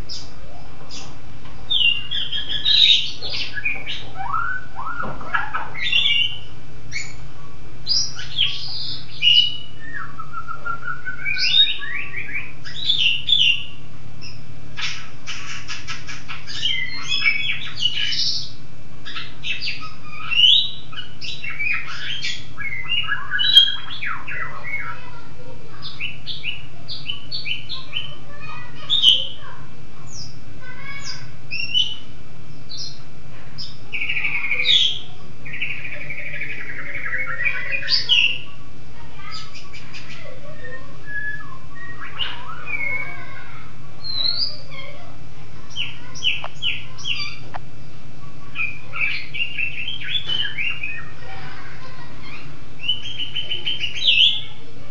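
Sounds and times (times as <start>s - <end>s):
songbird singing: 0.0s - 54.9s
steady low hum: 0.0s - 54.9s.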